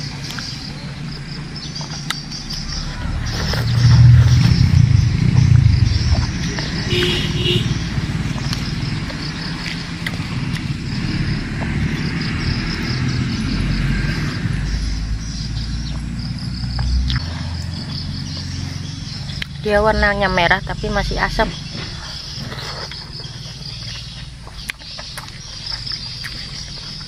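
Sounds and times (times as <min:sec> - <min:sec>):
engine rumbling: 0:00.0 - 0:27.0
insects chirring: 0:00.0 - 0:27.0
crunchy chewing: 0:01.6 - 0:14.5, 0:15.3 - 0:19.6, 0:21.6 - 0:27.0.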